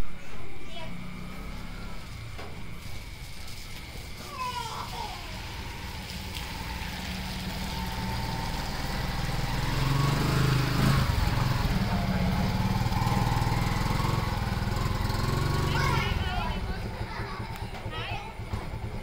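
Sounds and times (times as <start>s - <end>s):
motor engine running: 0.7s - 19.0s.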